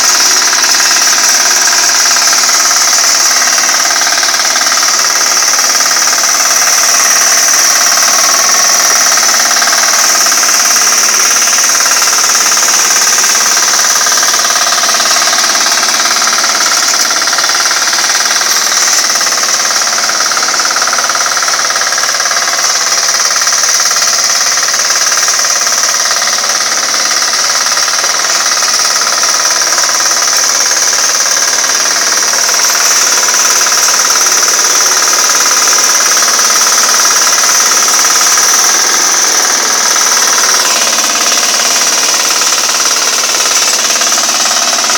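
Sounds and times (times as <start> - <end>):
small engine running under load: 0.0 - 44.9
tiller churning soil: 0.0 - 44.9.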